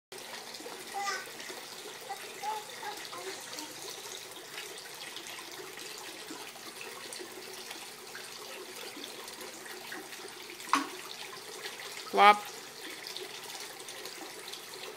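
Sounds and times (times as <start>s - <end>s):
fountain water splashing: 0.1s - 14.9s.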